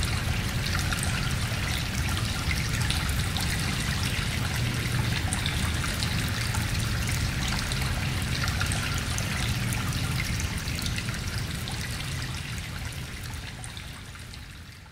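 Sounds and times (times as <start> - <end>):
water trickling: 0.0 - 14.9.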